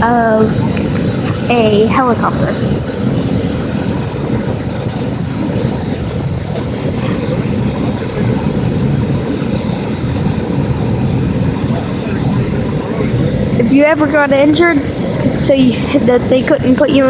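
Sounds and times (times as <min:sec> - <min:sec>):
helicopter turbine and rotor drone: 0:00.0 - 0:17.0.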